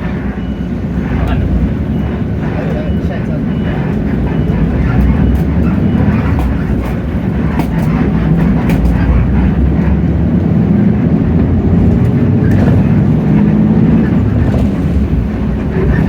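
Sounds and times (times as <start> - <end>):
bus body rattles and clicks: 0.0 - 16.0
diesel engine droning: 0.0 - 16.0.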